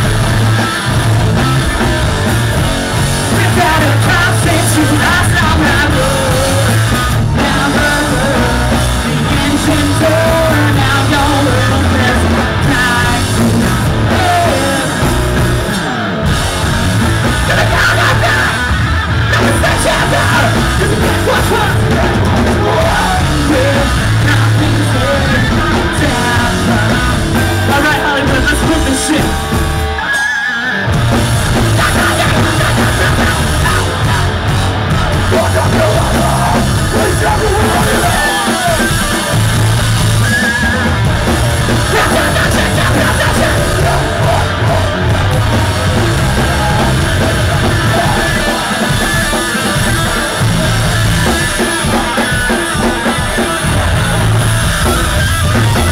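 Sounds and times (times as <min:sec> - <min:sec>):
distorted guitars: 0:00.0 - 0:55.9
drum kit: 0:00.0 - 0:55.9
live rock band: 0:00.0 - 0:55.9
yelled vocals: 0:00.0 - 0:55.9.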